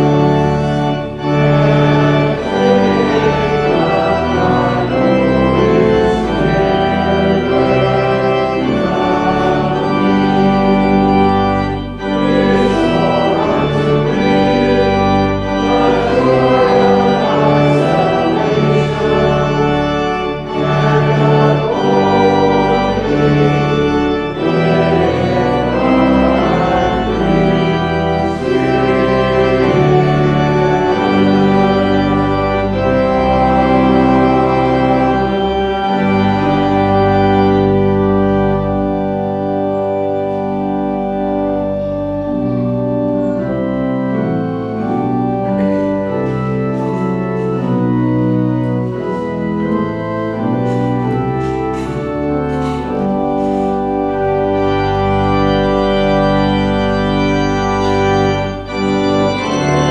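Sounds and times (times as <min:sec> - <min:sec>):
church organ playing chords: 0:00.0 - 0:59.9.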